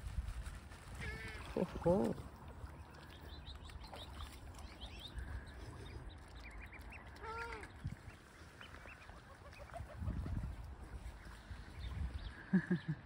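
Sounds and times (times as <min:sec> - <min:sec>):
waterbirds calling: 0:00.9 - 0:13.0.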